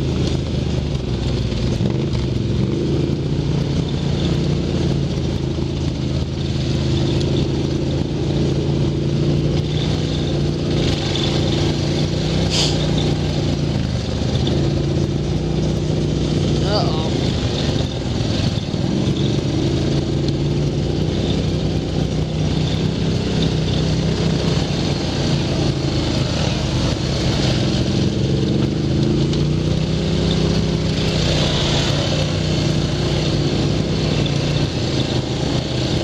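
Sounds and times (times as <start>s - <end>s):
atv engine running: 0.0s - 36.0s
wind and trail rumble: 0.0s - 36.0s.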